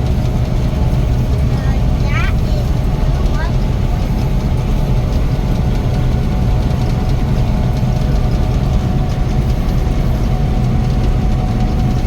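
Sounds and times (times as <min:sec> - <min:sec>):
combine engine hum: 0:00.0 - 0:12.0.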